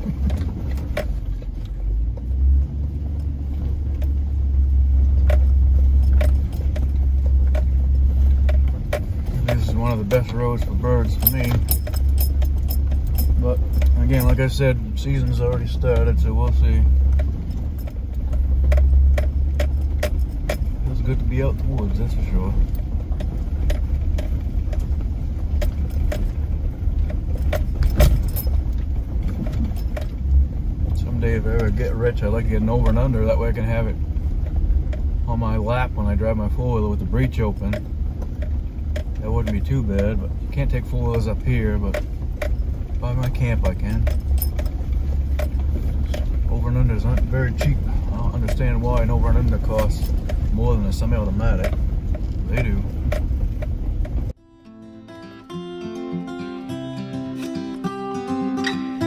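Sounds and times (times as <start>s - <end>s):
knocks and rattles over ruts: 0.0s - 54.4s
vehicle engine and tyres rumbling: 0.0s - 59.0s.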